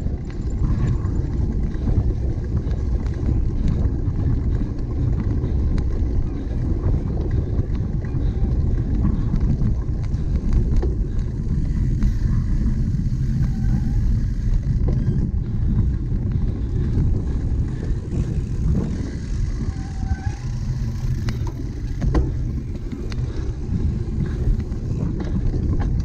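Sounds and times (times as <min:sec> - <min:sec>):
bike clicks and knocks: 0:00.0 - 0:26.0
bike tyre noise: 0:00.0 - 0:26.0
wind rumble on microphone: 0:00.0 - 0:26.0.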